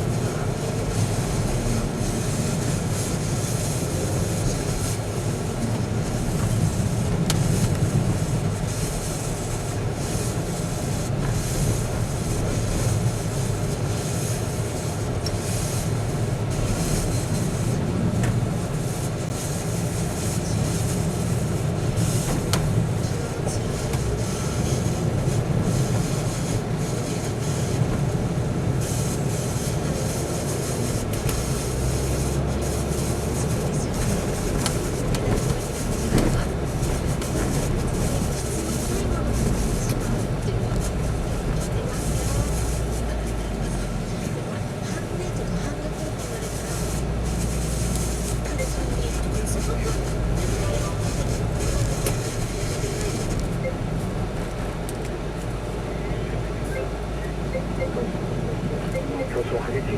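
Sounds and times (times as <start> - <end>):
vehicle engine and tyre rumble: 0.0 - 59.9.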